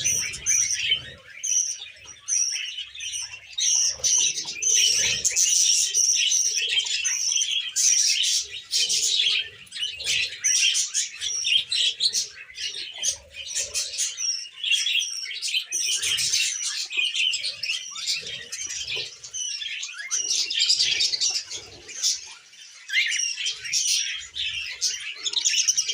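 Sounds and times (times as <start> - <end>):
budgerigar chirping and chattering: 0.0 - 25.9.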